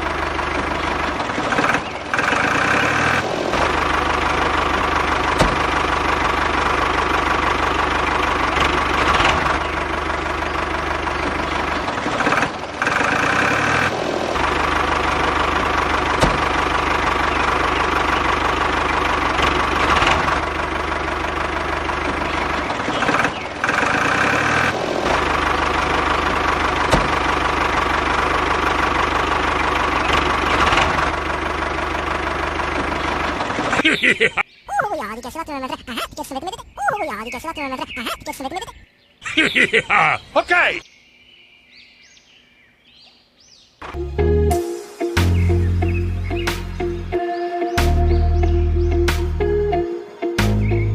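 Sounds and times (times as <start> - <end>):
tractor engine running: 0.0 - 34.5, 43.8 - 50.9.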